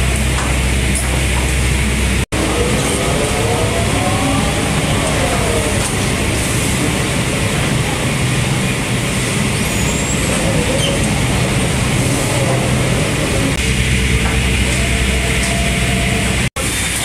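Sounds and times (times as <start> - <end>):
industrial machinery hum: 0.0 - 17.0.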